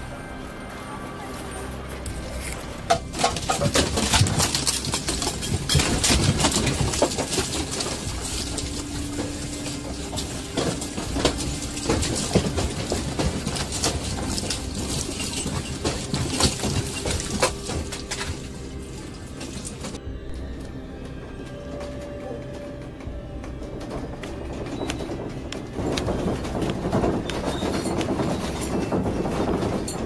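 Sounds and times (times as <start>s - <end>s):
household objects rattling and clattering: 2.0s - 20.1s, 21.8s - 30.0s.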